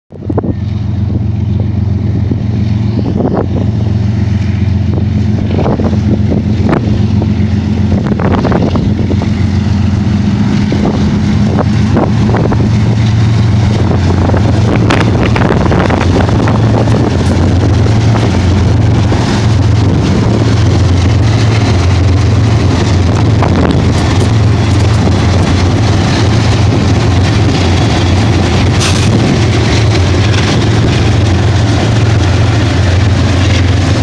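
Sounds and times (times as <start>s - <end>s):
freight locomotives engine drone: 0.1s - 34.0s.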